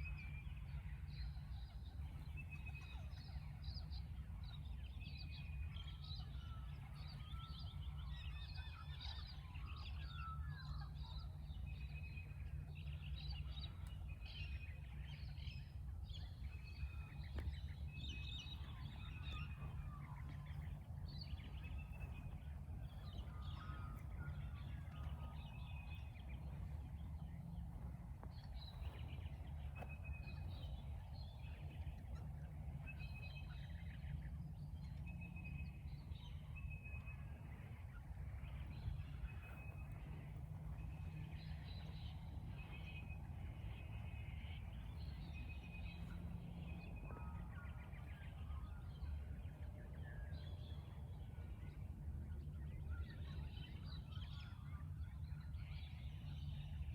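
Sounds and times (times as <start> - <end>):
steady low rumble: 0.0 - 56.9
chorus of birds calling: 5.5 - 56.8.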